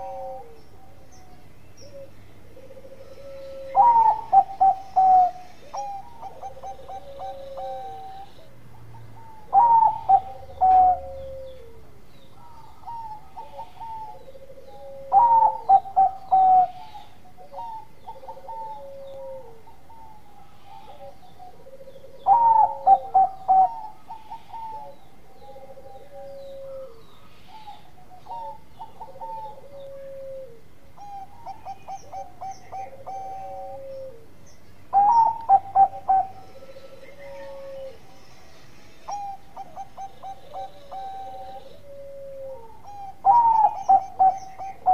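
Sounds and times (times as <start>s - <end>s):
dove rolling coo phrases: 0.0s - 44.9s
softer lower dove cooing: 0.0s - 44.9s.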